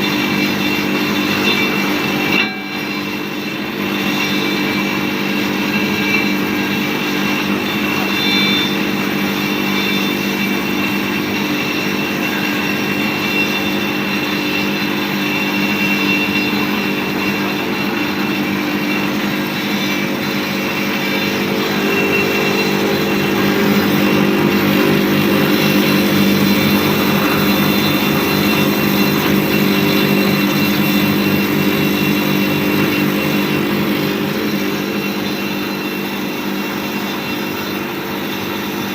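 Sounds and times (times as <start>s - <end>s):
sharpening machine humming: 0.0s - 38.9s.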